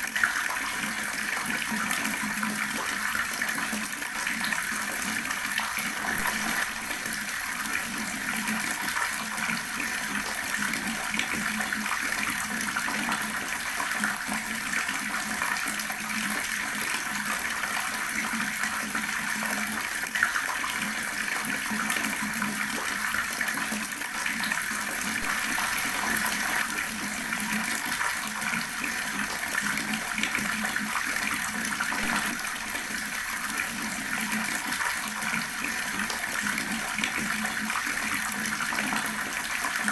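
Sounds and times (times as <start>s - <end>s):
tap water running and splashing: 0.0s - 39.9s.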